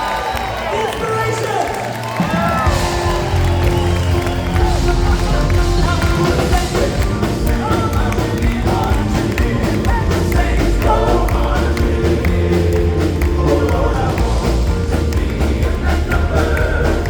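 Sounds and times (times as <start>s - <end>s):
upbeat band with heavy bass: 0.0s - 17.0s
voices singing: 2.4s - 17.0s.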